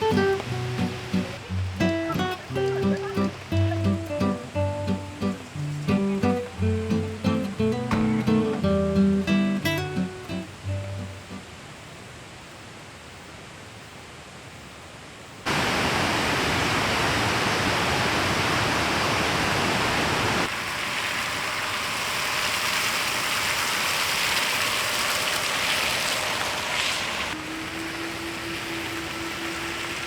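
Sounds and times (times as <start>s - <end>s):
rushing water: 0.0s - 12.7s, 15.4s - 30.0s.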